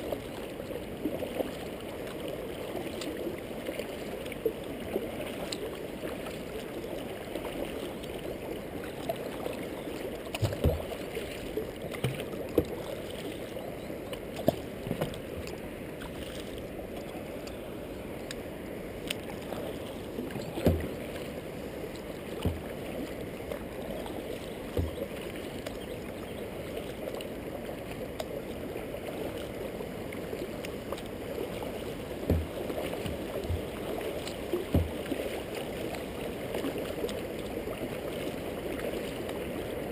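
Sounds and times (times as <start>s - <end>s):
water lapping around kayak: 0.0s - 39.9s.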